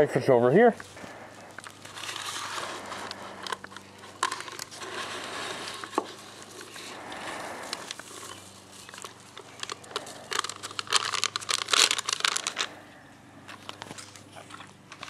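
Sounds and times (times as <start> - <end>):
bag crinkling and rustling: 0.8 - 15.0.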